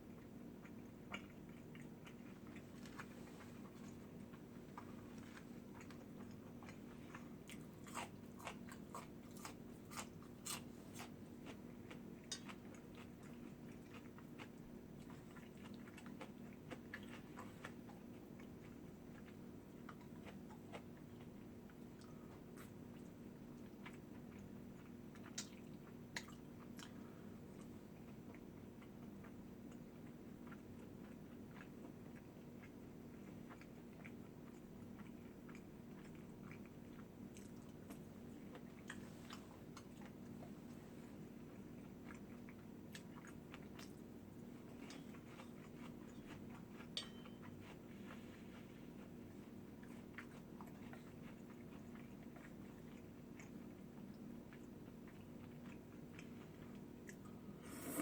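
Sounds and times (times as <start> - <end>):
low steady hum: 0.0 - 58.0
person chewing and crunching food: 0.0 - 58.0.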